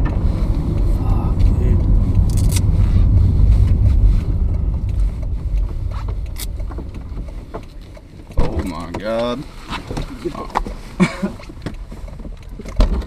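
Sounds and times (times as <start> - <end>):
car engine running at full throttle: 0.0 - 10.8.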